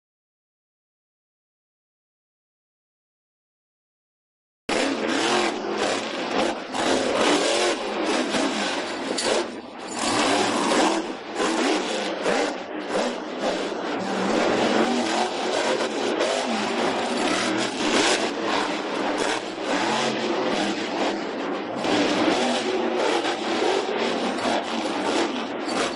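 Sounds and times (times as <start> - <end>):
truck engine revving: 4.7 - 25.9.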